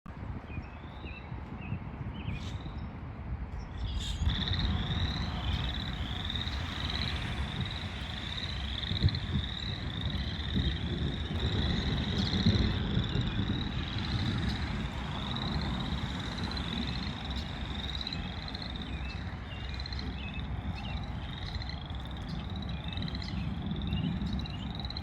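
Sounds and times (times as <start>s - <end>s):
frog trilling: 3.9s - 25.0s
low rumble: 4.1s - 25.0s.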